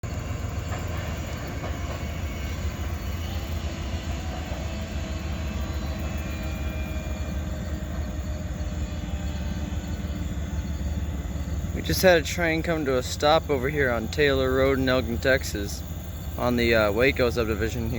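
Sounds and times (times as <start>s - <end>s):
train rumbling to a stop: 0.0s - 17.9s
faint wheel squeal: 0.1s - 17.1s.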